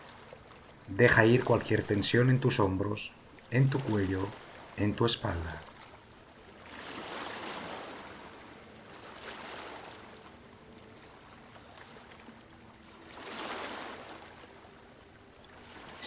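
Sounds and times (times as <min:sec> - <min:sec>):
waves breaking on sandy shore: 0:00.0 - 0:16.0.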